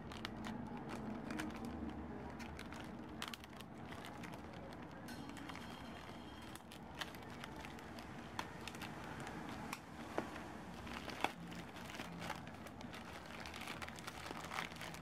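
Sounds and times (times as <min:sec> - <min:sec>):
plastic mailer bag crinkling: 0:00.0 - 0:09.7, 0:10.7 - 0:15.0.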